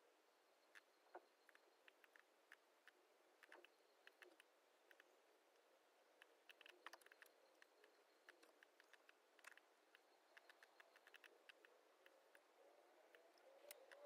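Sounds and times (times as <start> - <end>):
laptop keys and mouse clicking: 0.7 - 5.1, 6.2 - 12.5, 13.1 - 14.0.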